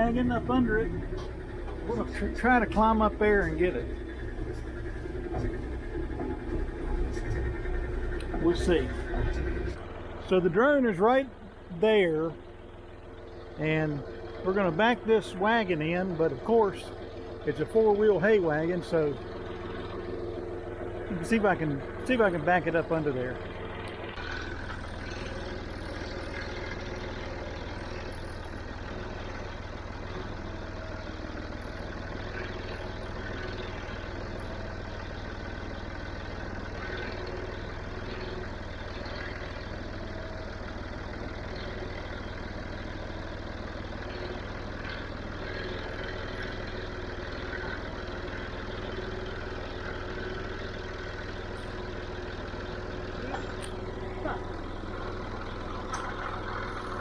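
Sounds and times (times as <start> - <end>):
tractor engine running at low revs: 0.0 - 57.0.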